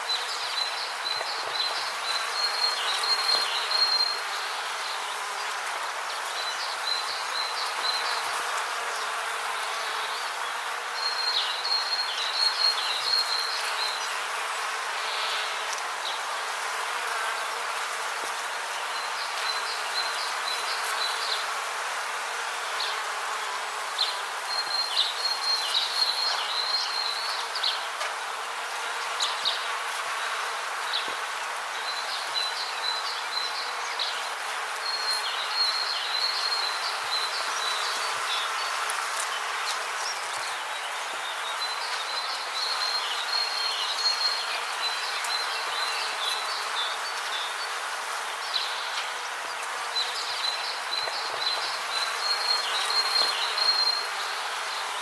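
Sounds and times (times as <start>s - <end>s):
steady rainforest hiss: 0.0s - 55.0s.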